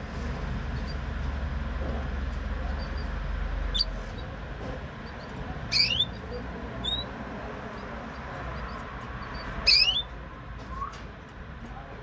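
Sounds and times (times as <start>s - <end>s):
canary chirping: 0.1s - 11.4s.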